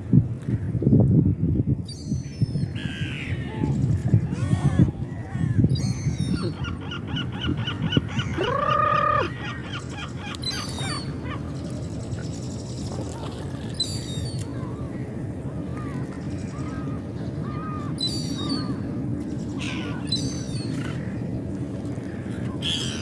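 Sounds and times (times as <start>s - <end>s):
seagulls calling: 2.0s - 12.0s, 13.1s - 21.4s, 22.0s - 23.0s
steady low rumble: 2.5s - 23.0s.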